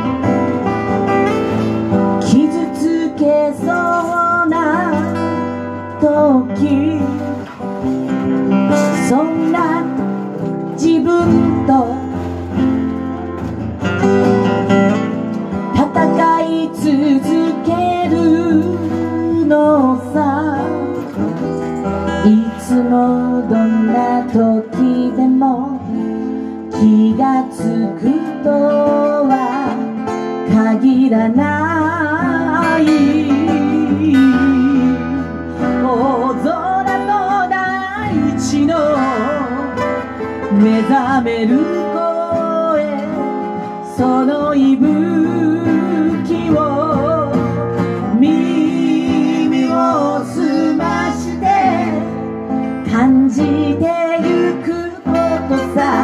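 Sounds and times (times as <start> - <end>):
acoustic guitar strumming: 0.0 - 56.0
woman singing into a microphone: 0.0 - 56.0.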